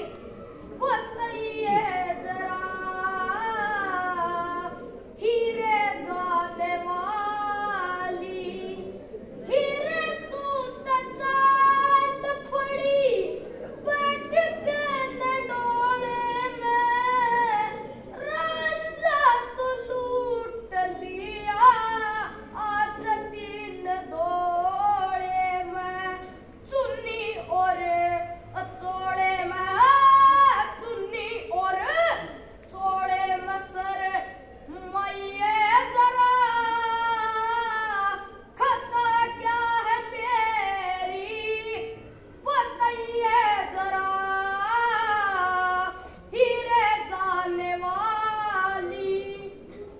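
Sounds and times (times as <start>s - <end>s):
boy singing unaccompanied: 0.8s - 49.9s.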